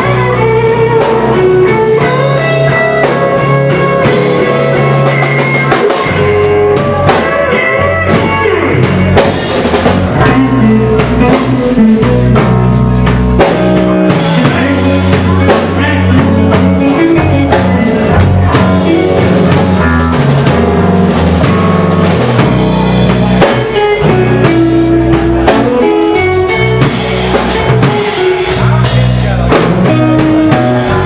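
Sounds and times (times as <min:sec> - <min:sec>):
live blues band playing: 0:00.0 - 0:31.0.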